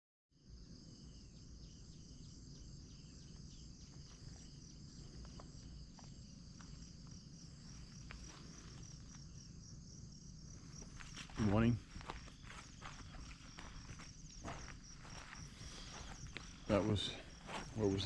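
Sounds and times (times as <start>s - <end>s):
insects trilling: 0.4s - 18.0s.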